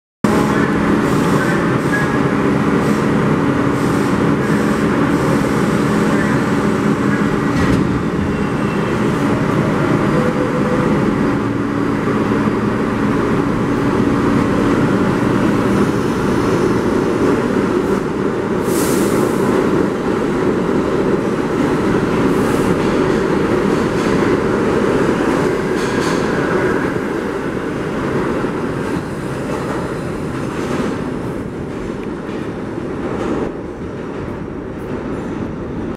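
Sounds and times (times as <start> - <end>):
subway train rumbling: 0.2 - 35.9.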